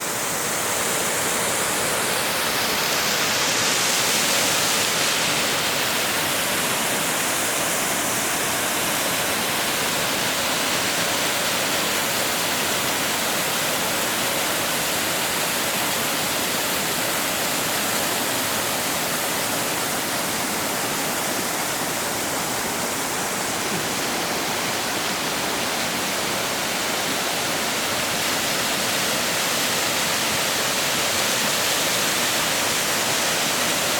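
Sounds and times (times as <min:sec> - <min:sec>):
waterfall and river rushing: 0:00.0 - 0:33.9.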